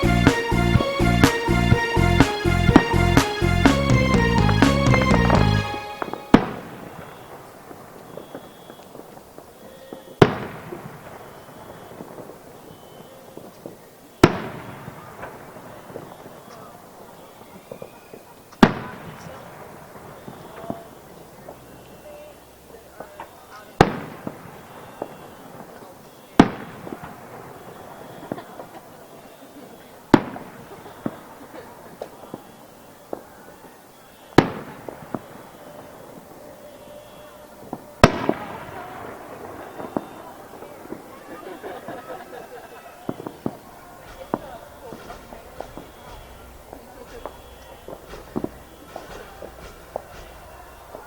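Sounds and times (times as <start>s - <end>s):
firework bangs with echo: 0.0s - 51.0s.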